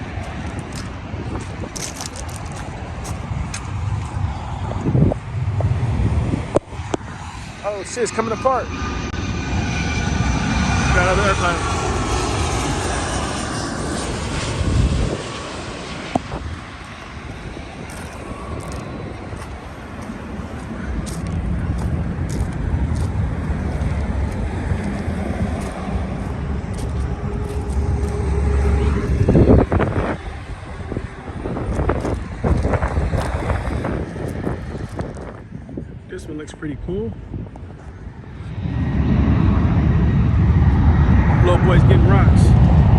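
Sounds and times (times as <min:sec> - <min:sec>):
jet airliner roar: 0:00.0 - 0:42.9
low engine rumble: 0:00.0 - 0:42.9.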